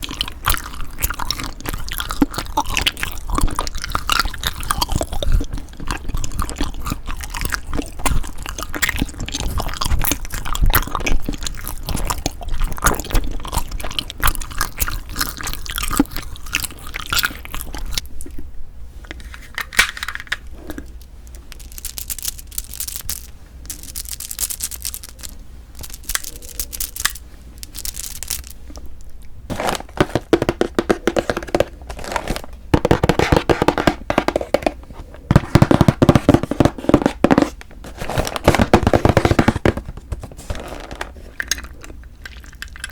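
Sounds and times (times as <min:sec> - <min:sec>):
crunching and chewing: 0:00.0 - 0:18.5, 0:19.1 - 0:42.9.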